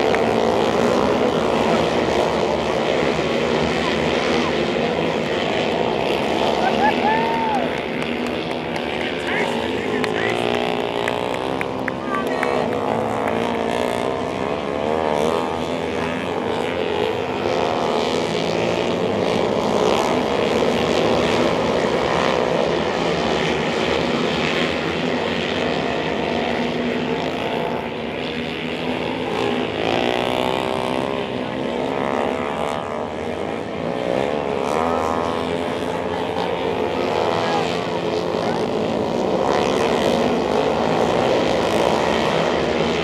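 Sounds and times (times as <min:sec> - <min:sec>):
racing motorcycles revving: 0:00.0 - 0:43.0.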